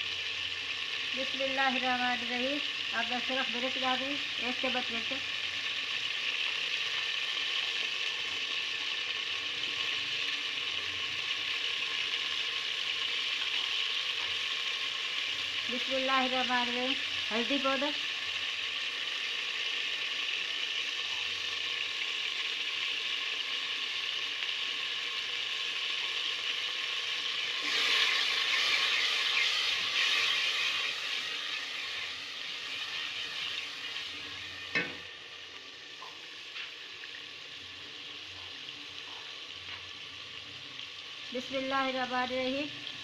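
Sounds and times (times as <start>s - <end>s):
masala sizzling in hot oil: 0.0s - 43.0s.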